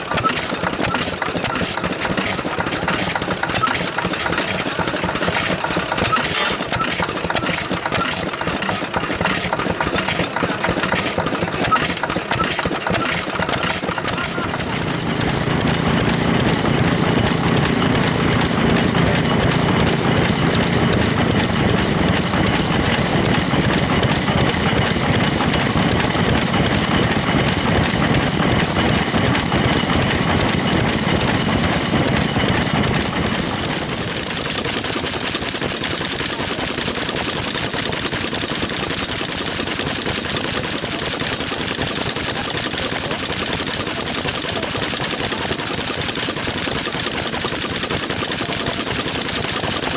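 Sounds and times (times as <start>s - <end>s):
stationary engines chugging: 0.0s - 49.9s.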